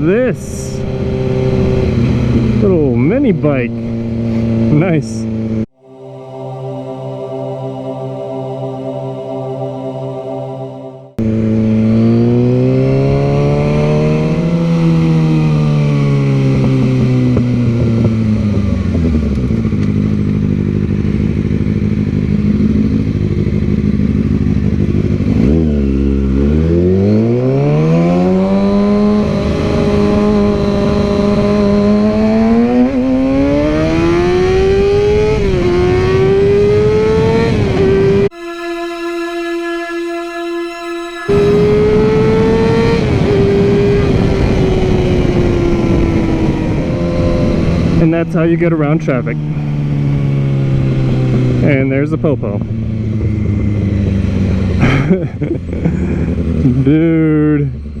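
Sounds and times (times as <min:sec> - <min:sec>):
motorcycle engine revving: 0:00.0 - 0:05.6, 0:11.2 - 0:58.0.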